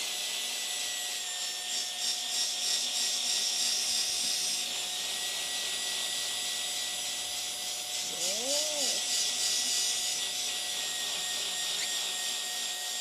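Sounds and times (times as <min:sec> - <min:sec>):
cordless drill motor whine: 0:00.0 - 0:13.0.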